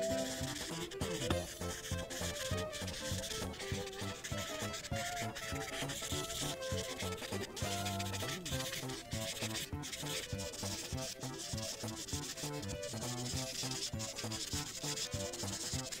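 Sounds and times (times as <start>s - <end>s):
marker scrubbing on paper: 0.0s - 16.0s.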